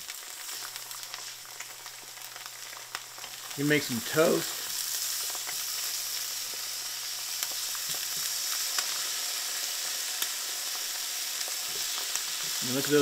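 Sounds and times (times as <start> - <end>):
eggs and ham sizzling in skillet: 0.0 - 13.0.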